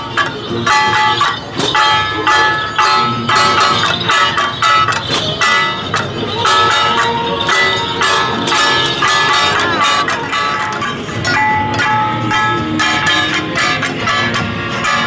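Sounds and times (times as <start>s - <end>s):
gongs and cymbals struck: 0.0s - 15.0s.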